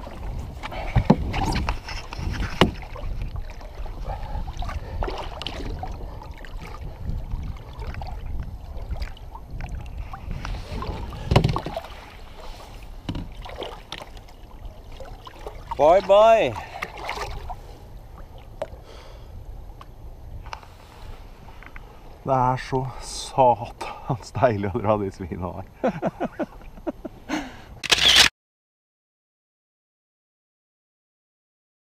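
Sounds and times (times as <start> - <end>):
water splashing against boat: 0.0 - 27.0.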